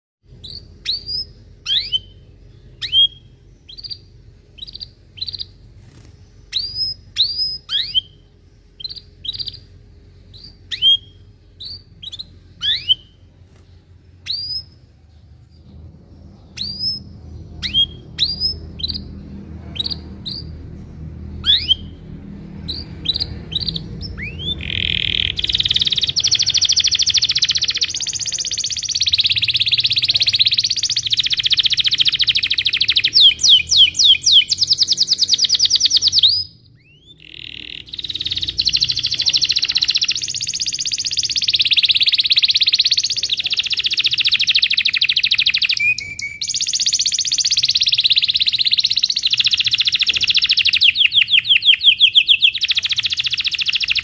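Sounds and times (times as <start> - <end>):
canary chirping and singing: 0.3 - 54.0.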